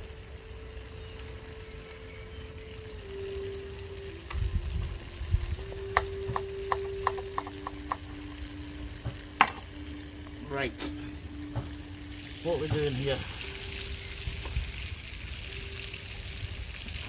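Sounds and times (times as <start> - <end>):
food sizzling over campfire: 0.0 - 17.0.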